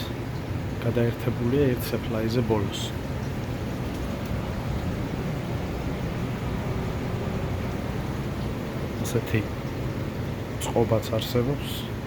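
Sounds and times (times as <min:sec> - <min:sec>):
furnace air rush and hum: 0:00.0 - 0:12.0.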